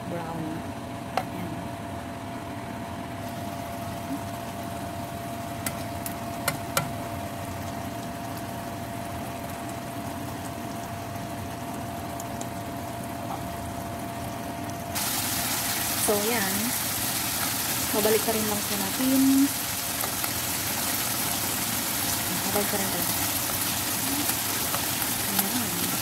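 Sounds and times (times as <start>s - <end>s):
constant hum with thin tone: 0.0s - 26.0s
meat sizzling in a pan: 3.2s - 26.0s.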